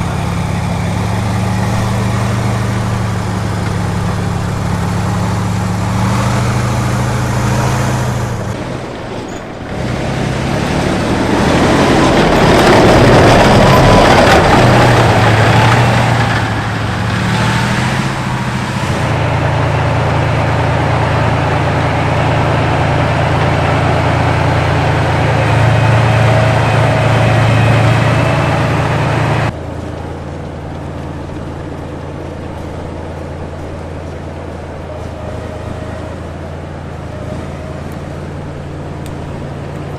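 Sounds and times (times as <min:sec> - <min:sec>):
broad rush of noise: 0:00.0 - 0:39.9
tank diesel engine running: 0:00.0 - 0:39.9.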